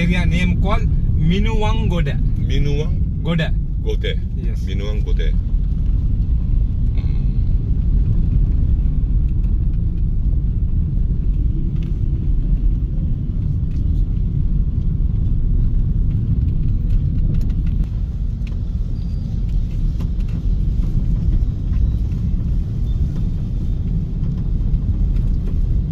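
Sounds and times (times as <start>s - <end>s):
car engine and tyre rumble: 0.0s - 25.9s.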